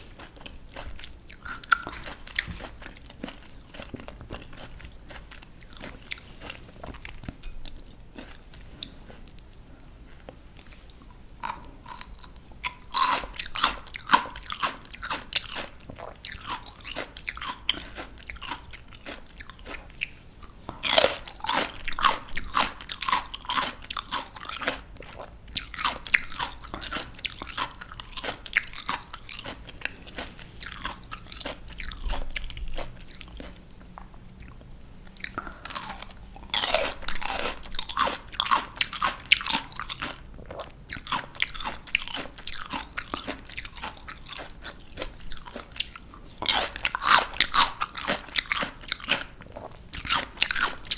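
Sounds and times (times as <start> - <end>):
crunchy vegetable chewing: 0.0 - 50.9.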